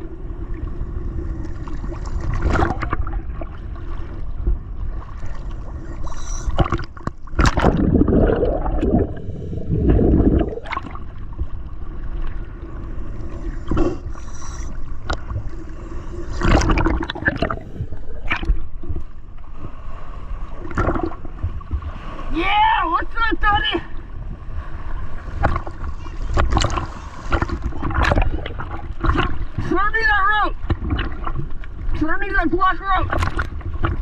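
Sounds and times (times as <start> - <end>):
water gurgling and bubbling: 0.0 - 19.3, 20.5 - 22.2, 24.9 - 30.0, 30.6 - 32.1.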